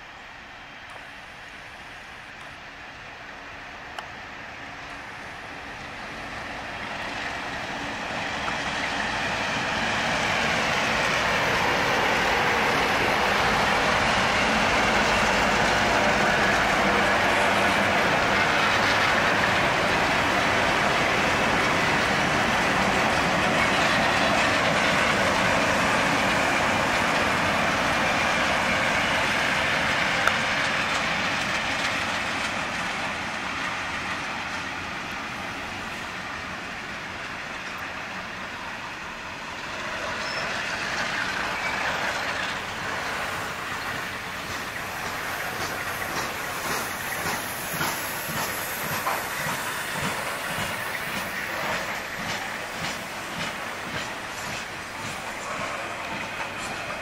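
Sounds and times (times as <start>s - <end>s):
diesel locomotives passing: 0.0s - 57.0s.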